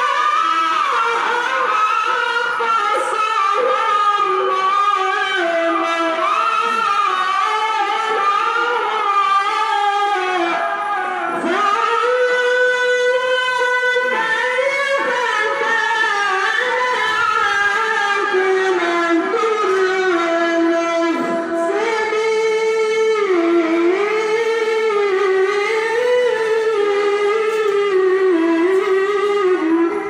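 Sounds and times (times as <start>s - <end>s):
man reciting melodically: 0.0s - 30.0s.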